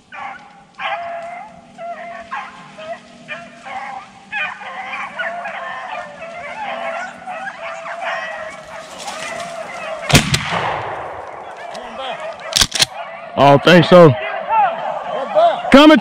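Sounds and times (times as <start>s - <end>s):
beagles baying: 0.0s - 16.0s.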